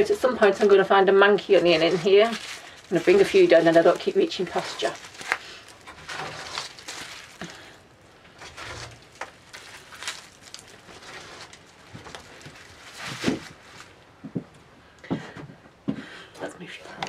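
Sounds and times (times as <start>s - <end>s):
onion skins crackling: 0.0s - 14.2s.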